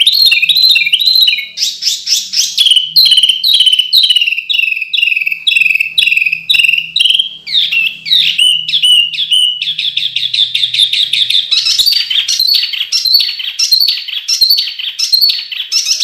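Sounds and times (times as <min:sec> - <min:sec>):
songbird whistling and trilling: 0:00.0 - 0:16.0.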